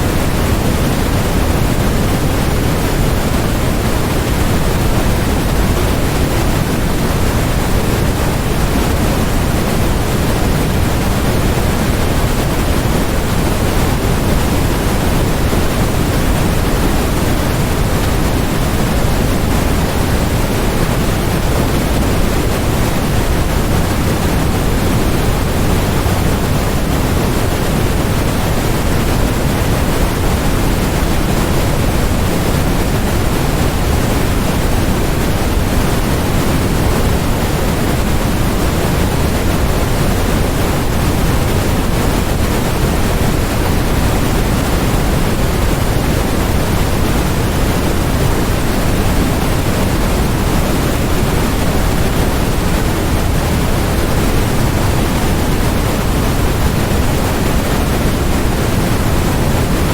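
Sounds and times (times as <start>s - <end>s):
loud steady hiss with rumble: 0.0s - 59.9s.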